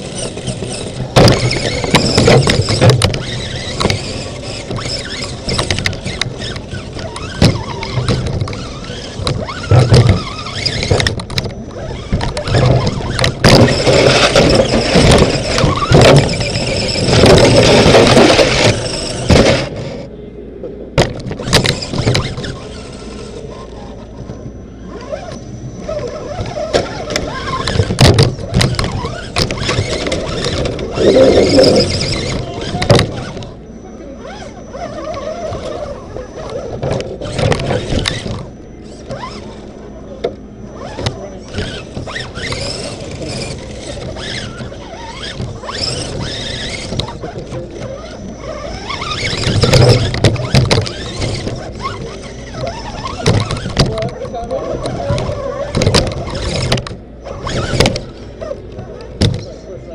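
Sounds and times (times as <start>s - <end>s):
electric motor and gears whining: 0.0s - 20.2s, 21.0s - 59.9s.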